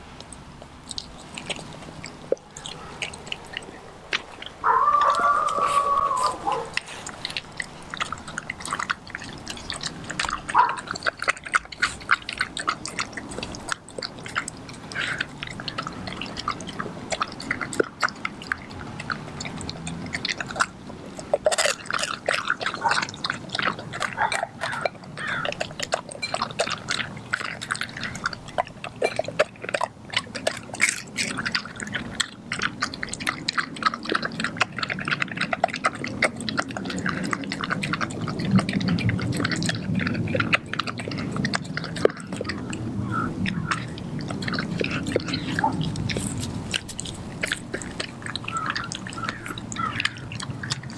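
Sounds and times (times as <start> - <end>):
dog eating wet chewing and licks: 0.0 - 50.9.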